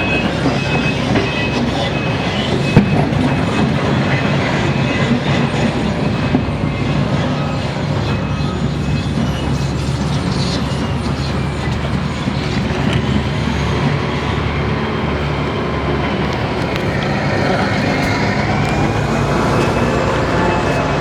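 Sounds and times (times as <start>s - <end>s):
diesel engine hum: 0.0s - 21.0s.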